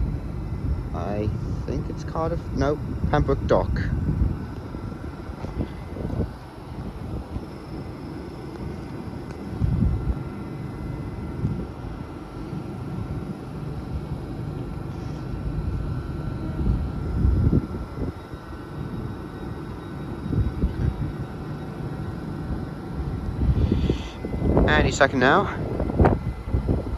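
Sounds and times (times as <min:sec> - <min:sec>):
faint steady whining tones: 0:00.0 - 0:26.9
idling diesel trains rumbling: 0:00.0 - 0:26.9
wind gusts on microphone: 0:00.0 - 0:26.9.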